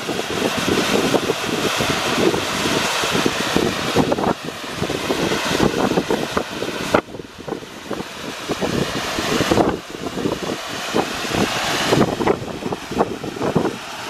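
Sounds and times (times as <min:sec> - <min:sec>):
steam vent roaring: 0:00.0 - 0:14.0.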